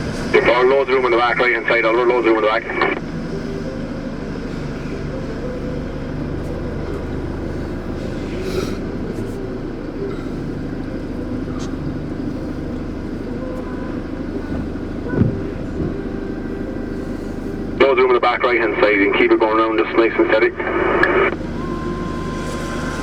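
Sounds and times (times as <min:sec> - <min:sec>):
lorry diesel engine running: 0:00.0 - 0:23.0.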